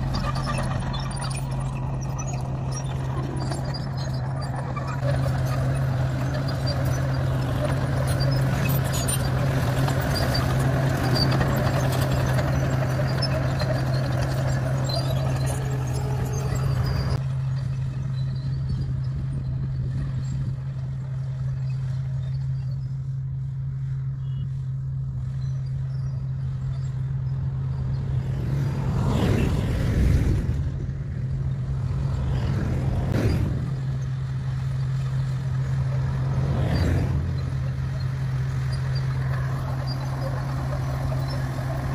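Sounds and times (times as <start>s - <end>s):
bulldozer diesel engine running: 0.0s - 29.2s, 30.6s - 41.9s
vehicles passing: 0.0s - 41.9s.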